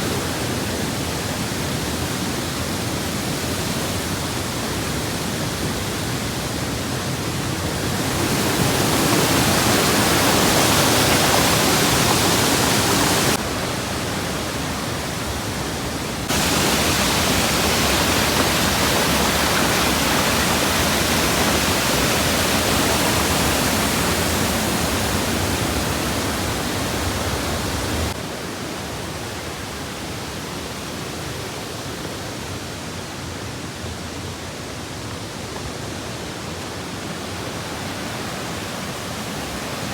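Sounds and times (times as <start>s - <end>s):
waterfall rushing: 0.0s - 33.3s, 34.6s - 39.9s.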